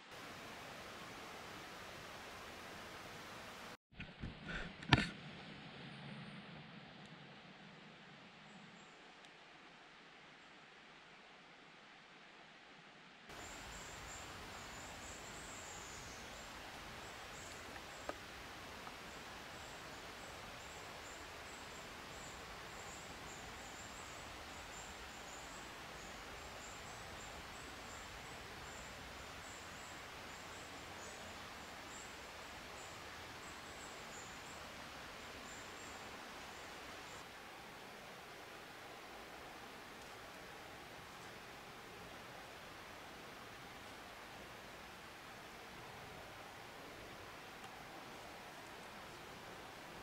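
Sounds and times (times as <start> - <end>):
woodland ambience hiss: 0.0 - 3.8, 4.5 - 50.0.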